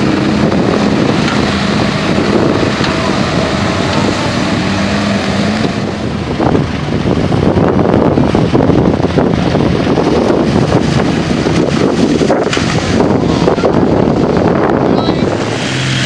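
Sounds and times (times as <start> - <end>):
mud and water churning: 0.0 - 16.0
truck engine running under load: 0.0 - 16.0
wind buffeting microphone: 0.0 - 16.0.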